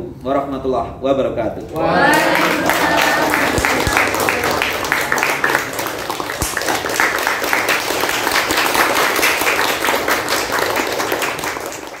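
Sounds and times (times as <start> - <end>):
people applauding: 1.9 - 12.0.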